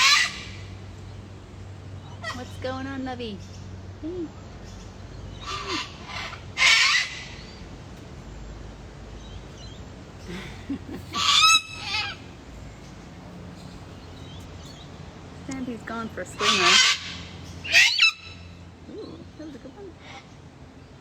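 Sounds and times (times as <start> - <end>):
harsh bird calls: 0.0 - 21.0.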